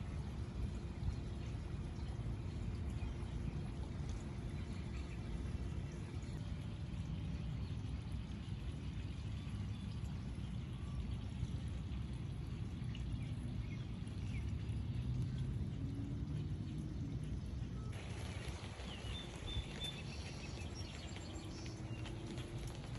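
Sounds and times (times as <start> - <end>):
steady rain patter: 0.0 - 22.9.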